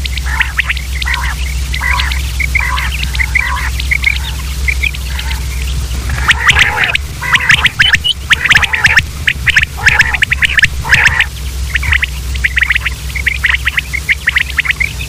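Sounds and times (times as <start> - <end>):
quail calling in chattering bursts: 0.0 - 15.0
steady low hum: 0.0 - 15.0.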